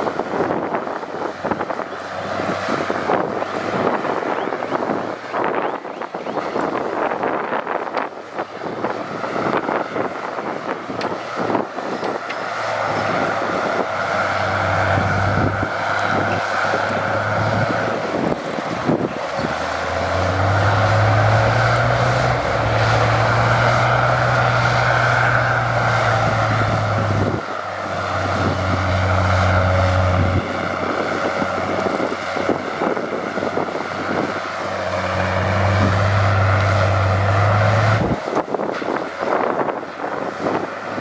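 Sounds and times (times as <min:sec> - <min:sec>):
diesel engine running: 0:00.0 - 0:41.0
mechanical clatter and rumble: 0:06.5 - 0:41.0.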